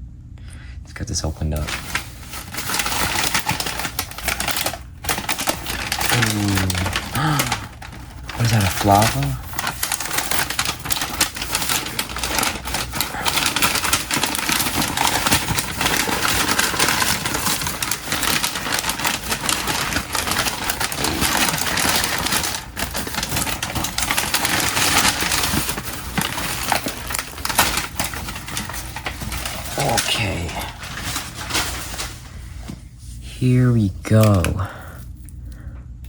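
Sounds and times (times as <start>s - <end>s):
packaging crinkling and rustling: 1.2s - 32.9s.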